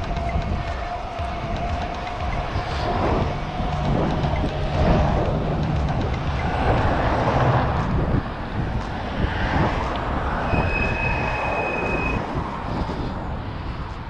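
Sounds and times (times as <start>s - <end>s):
high whine: 0.0s - 13.9s
road rumble: 0.0s - 14.0s
wind rushing over microphone: 0.0s - 14.0s.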